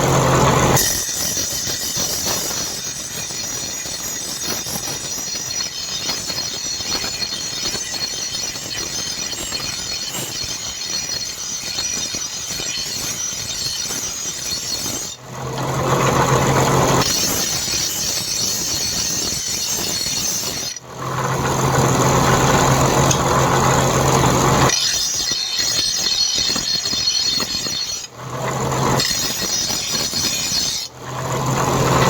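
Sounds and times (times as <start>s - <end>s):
power tool grinding: 0.0s - 32.0s.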